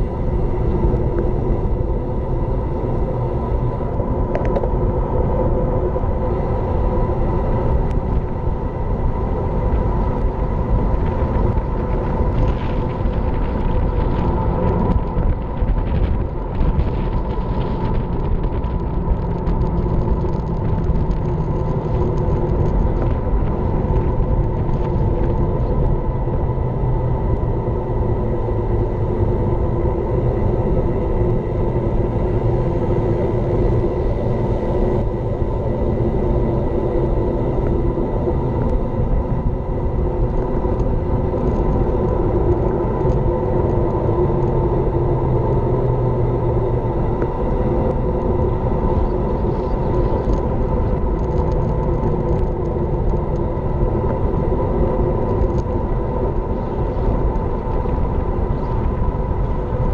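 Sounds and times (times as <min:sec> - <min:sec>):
faint steady hum: 0:00.0 - 0:59.9
tyre noise on asphalt: 0:00.0 - 0:59.9
wind buffeting microphone: 0:00.0 - 0:59.9.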